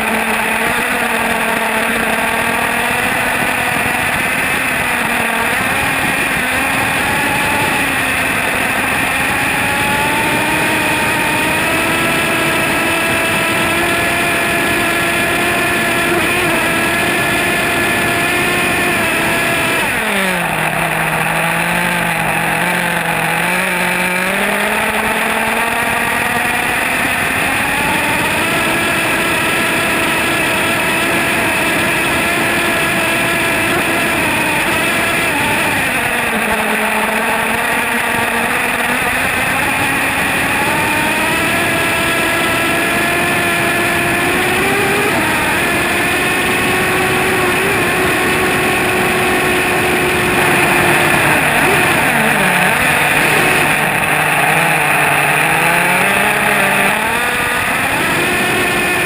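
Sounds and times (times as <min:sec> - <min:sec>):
rc truck engine revving high: 0:00.0 - 0:59.0.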